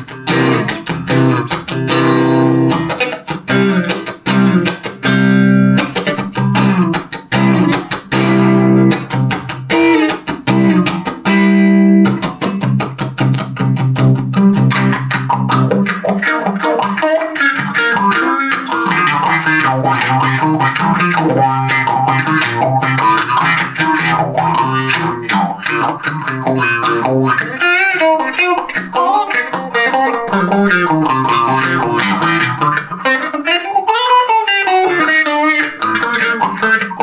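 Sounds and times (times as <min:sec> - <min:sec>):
electric guitar melody: 0:00.0 - 0:37.0.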